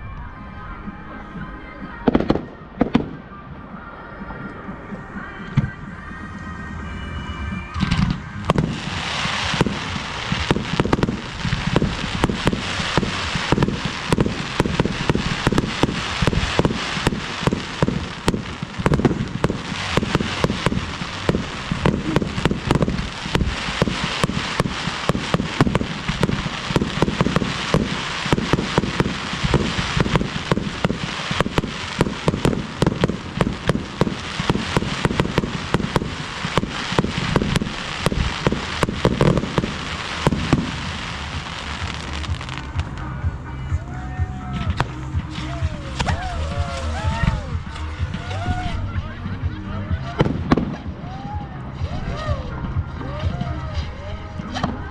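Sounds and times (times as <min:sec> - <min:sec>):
fireworks barrage: 0:00.0 - 0:54.9.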